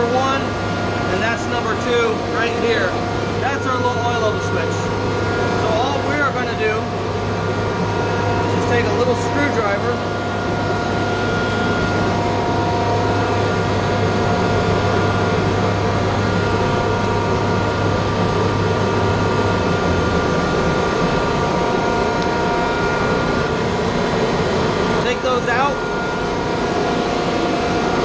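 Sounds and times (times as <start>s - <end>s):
low electrical hum: 0.0s - 28.0s
machine droning: 0.0s - 28.0s.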